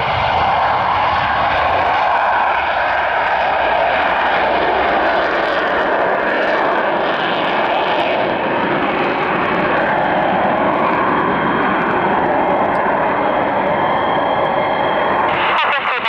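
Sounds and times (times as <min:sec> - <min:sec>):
faint high jet whine: 0:00.0 - 0:16.0
jet engines at taxi power: 0:00.0 - 0:16.0.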